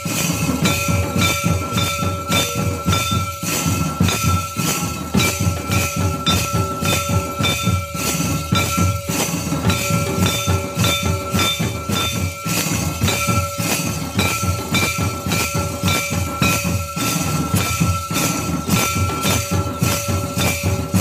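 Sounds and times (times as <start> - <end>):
barrel drum beating: 0.0 - 21.0
high ringing tones: 0.0 - 21.0
jingling: 0.0 - 21.0.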